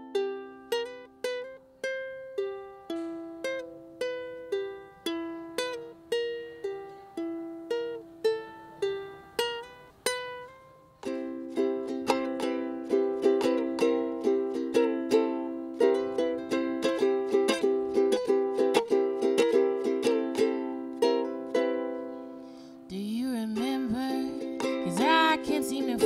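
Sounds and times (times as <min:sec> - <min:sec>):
ukulele playing: 0:00.0 - 0:26.0.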